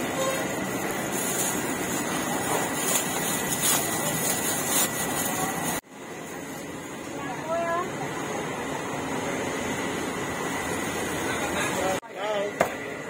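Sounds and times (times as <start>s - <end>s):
market bustle: 0.0s - 13.0s
traffic: 0.0s - 13.0s.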